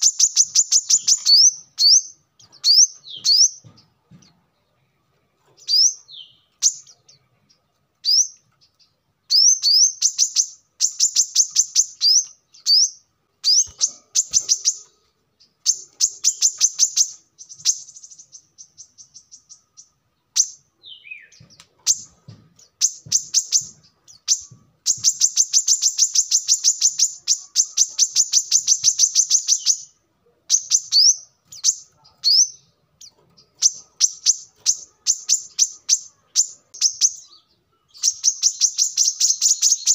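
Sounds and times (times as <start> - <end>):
bird singing high sharp notes: 0.0 - 3.6, 9.3 - 39.9
bird trill: 0.0 - 3.9, 5.6 - 39.9.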